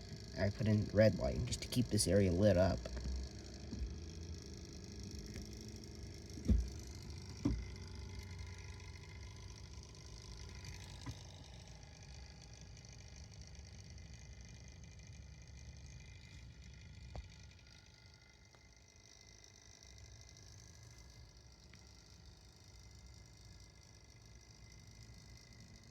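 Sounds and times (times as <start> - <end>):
computer fans whirring: 0.0 - 25.9.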